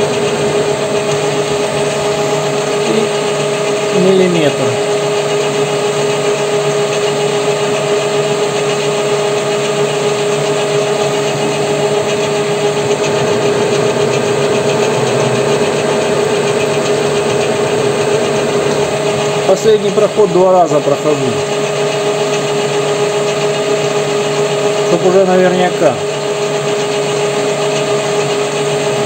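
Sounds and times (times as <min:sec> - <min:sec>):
lathe motor humming and whining: 0:00.0 - 0:29.0.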